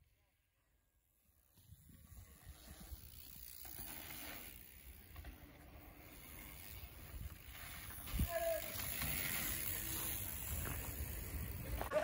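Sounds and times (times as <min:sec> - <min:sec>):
bicycles rolling over dirt: 0:00.1 - 0:12.0.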